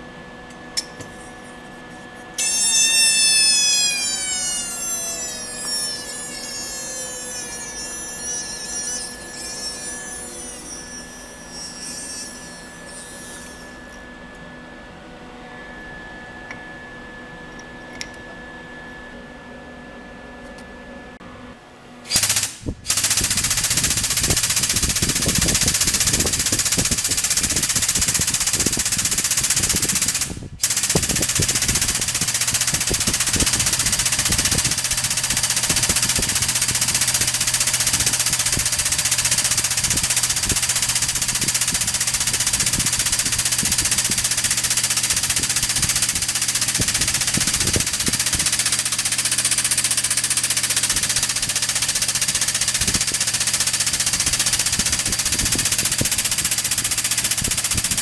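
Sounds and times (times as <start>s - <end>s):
pneumatic pump rattling: 0.8s - 14.1s, 22.1s - 58.0s.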